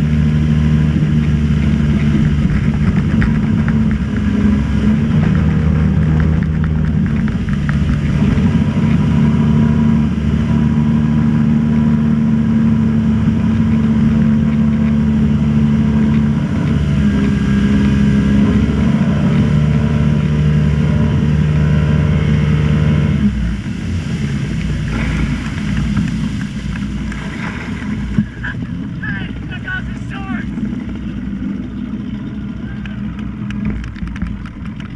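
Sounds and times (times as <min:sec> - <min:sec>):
motorboat engine running: 0:00.0 - 0:34.9.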